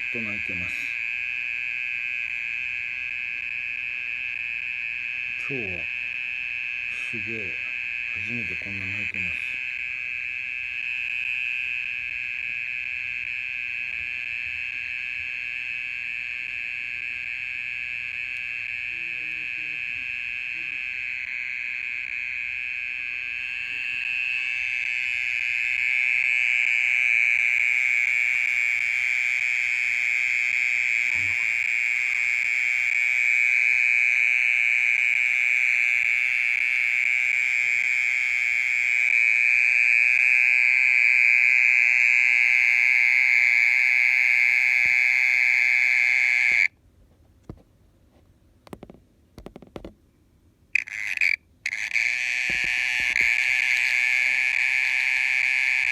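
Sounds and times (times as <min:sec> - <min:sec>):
mole cricket trilling: 0:00.0 - 0:46.7, 0:50.8 - 0:55.9.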